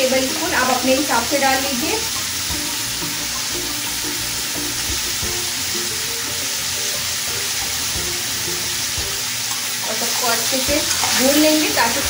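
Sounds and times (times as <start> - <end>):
chicken sizzling in oil: 0.0 - 12.0
soft background music: 0.0 - 12.0.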